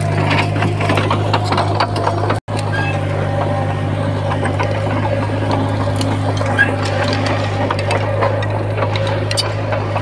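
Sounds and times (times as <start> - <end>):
bulldozer diesel engine drone: 0.0 - 10.0
metal clanking and knocking: 0.0 - 10.0.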